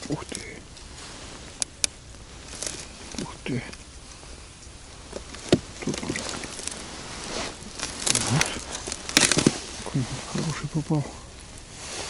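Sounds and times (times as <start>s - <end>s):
handling rustling: 0.0s - 12.0s.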